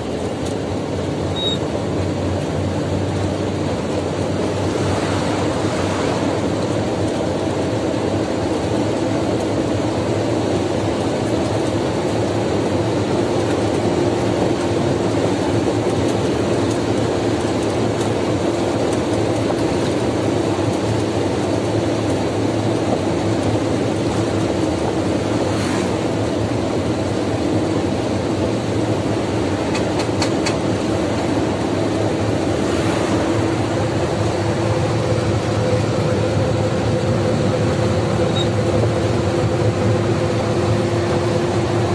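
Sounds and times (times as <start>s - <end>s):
lorry engine and tyre drone: 0.0s - 41.9s.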